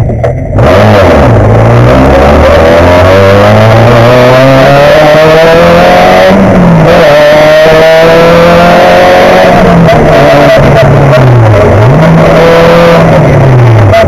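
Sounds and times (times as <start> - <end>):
rally car engine at full throttle: 0.0 - 14.0.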